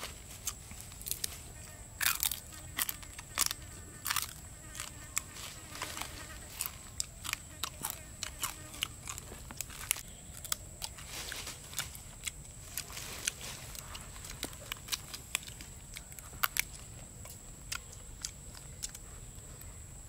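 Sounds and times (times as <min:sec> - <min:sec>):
grilled meat crunching: 0:00.0 - 0:19.6.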